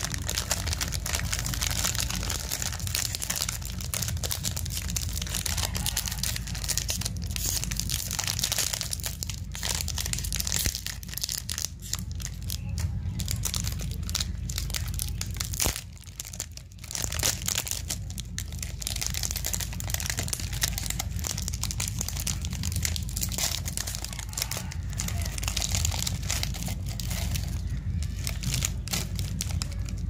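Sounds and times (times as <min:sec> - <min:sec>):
plastic wrappers crinkling: 0:00.0 - 0:30.0.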